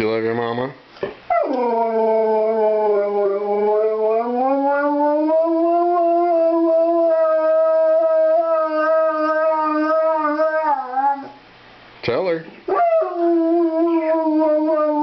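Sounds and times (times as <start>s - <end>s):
dog howling: 1.3s - 11.4s, 12.7s - 15.0s.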